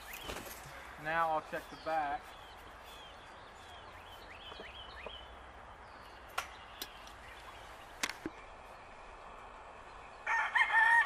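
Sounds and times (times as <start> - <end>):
birdlike chirps: 0.0 - 10.2.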